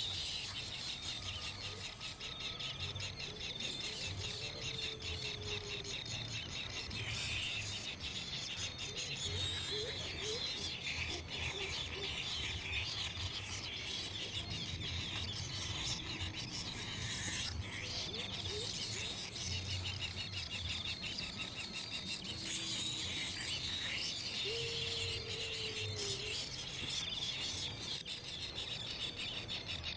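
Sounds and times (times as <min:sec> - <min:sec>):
baby birds chirping: 0:00.0 - 0:29.8.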